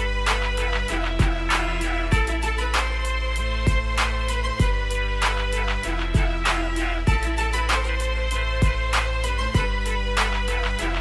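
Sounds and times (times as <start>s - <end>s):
music with heavy beat: 0.0s - 11.0s.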